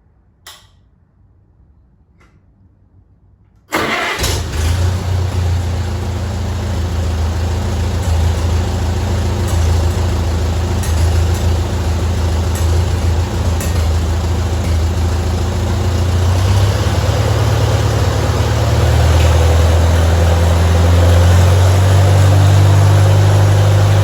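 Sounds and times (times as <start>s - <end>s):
tractor engine idling: 3.8s - 24.0s.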